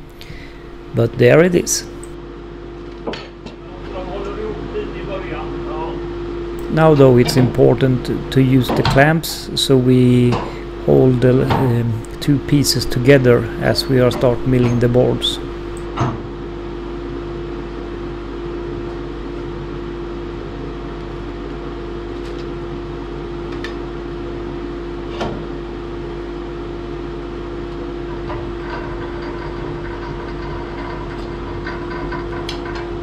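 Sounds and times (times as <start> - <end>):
machine motor humming: 0.0 - 3.0, 3.7 - 33.0.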